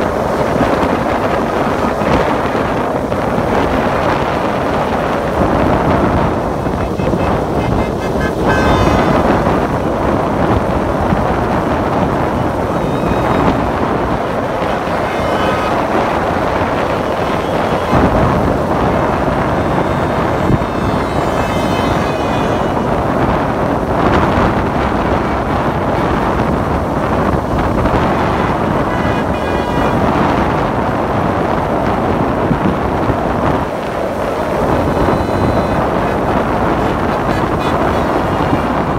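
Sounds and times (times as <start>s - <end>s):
car horns tooting: 0.3s - 32.2s, 34.2s - 38.9s.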